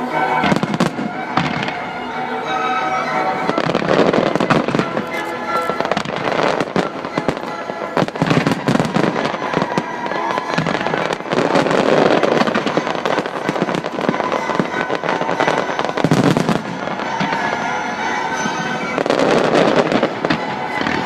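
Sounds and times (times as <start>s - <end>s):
fireworks bursting: 0.0s - 21.0s
fireworks crackle: 0.0s - 21.0s.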